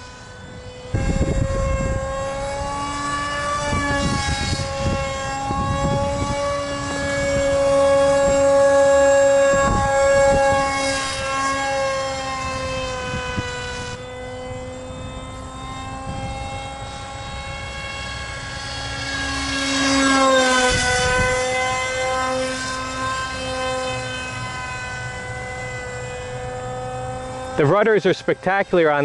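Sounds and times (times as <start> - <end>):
electric motor whine: 0.0 - 29.0.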